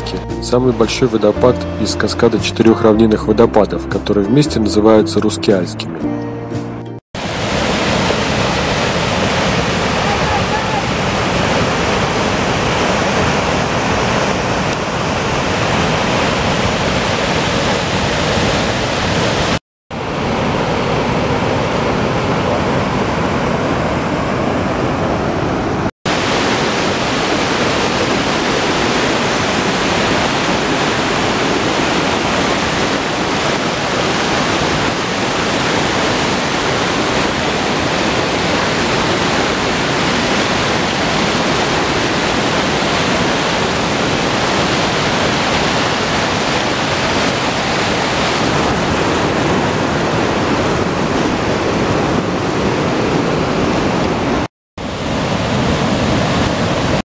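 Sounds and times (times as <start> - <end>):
white water rushing over rocks: 7.2 - 25.5, 26.1 - 57.0.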